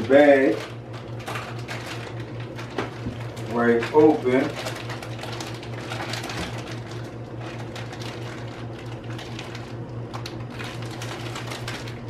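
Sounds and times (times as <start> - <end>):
foil snack bag crinkling: 0.0 - 12.0
steady low hum: 0.0 - 12.0.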